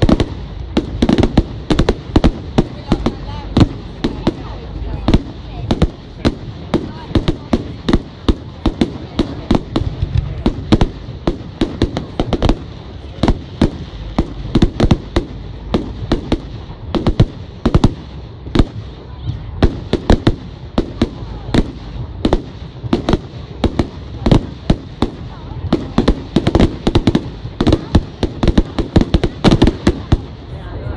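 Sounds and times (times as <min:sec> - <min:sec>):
continuous low rumble: 0:00.0 - 0:30.9.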